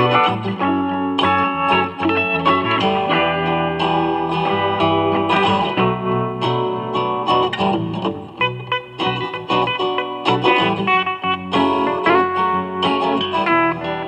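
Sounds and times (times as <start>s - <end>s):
guitar playing: 0.0s - 14.0s.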